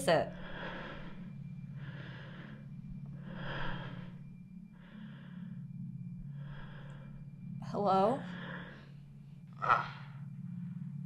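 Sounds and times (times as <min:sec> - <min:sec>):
low steady hum: 0:00.0 - 0:11.0
person breathing heavily: 0:00.3 - 0:07.4, 0:08.2 - 0:11.0.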